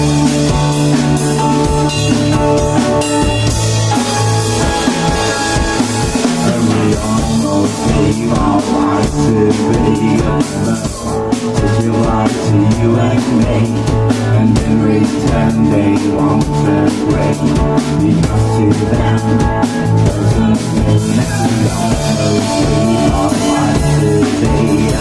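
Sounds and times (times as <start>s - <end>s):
drum kit beat: 0.0s - 25.0s
electric guitar: 0.0s - 25.0s
rock band playing live: 0.0s - 25.0s.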